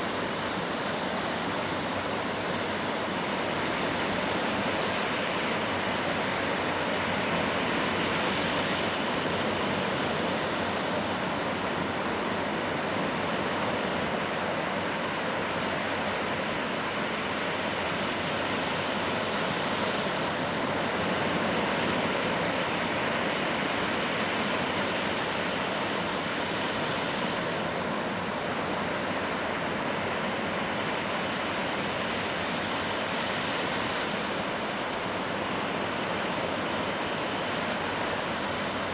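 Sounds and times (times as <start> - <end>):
ocean surf on a beach: 0.0 - 38.9.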